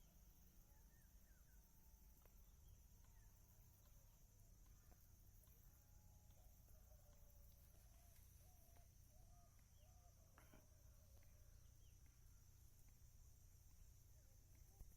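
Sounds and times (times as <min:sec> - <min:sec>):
faint wavering calls: 0:00.5 - 0:14.9.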